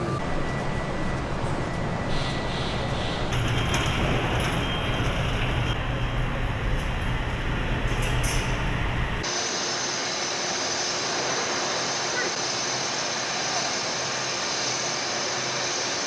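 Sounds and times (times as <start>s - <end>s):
factory machinery humming: 0.0s - 16.0s.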